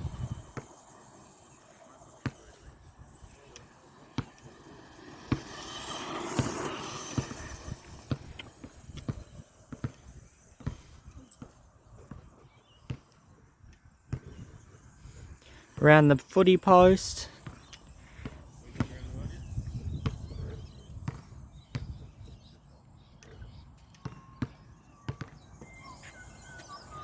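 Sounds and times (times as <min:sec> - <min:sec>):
electric motor and tyres hissing: 0:00.0 - 0:24.0.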